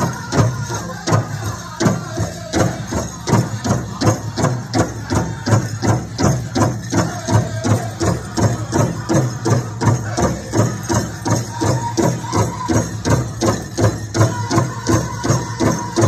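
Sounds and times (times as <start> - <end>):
singers' high voices: 0.0 - 16.0.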